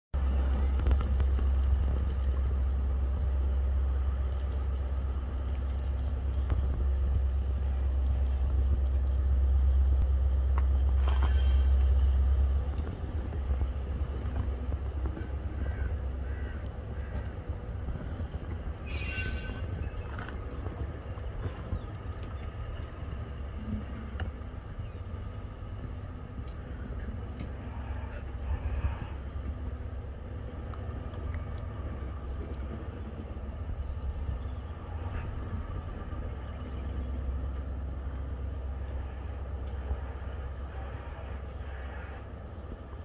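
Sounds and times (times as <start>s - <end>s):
locomotive rumbling: 0.1s - 43.0s.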